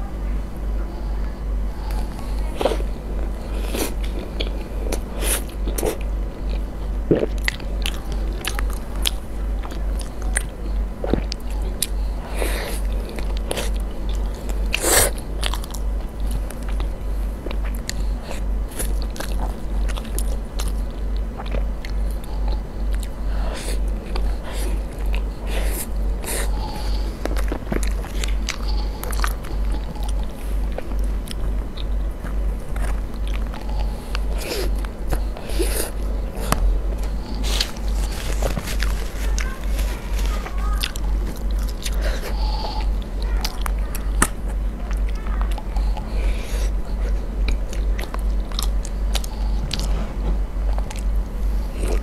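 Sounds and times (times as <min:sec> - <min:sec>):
low pulsing beat: 0:01.4 - 0:52.0
wet chewing and mouth clicks: 0:01.8 - 0:50.0, 0:50.6 - 0:52.0.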